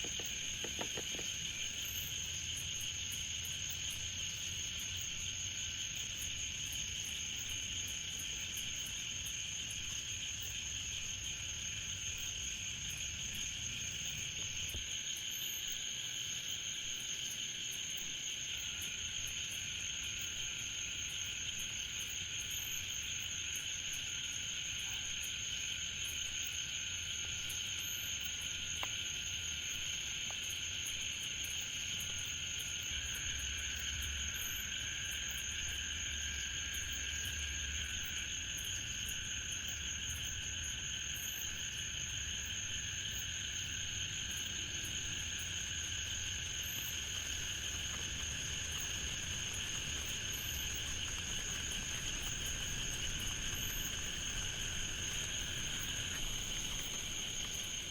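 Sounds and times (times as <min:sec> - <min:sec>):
crickets and insects trilling: 0:00.0 - 0:57.9.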